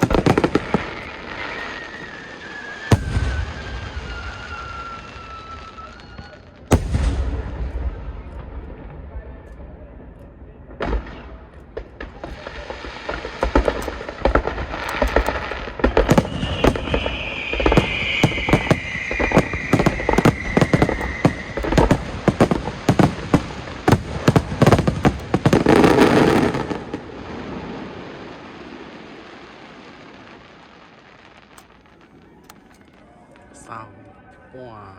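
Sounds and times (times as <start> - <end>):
fireworks bursting: 0.0 - 9.1, 10.7 - 33.6.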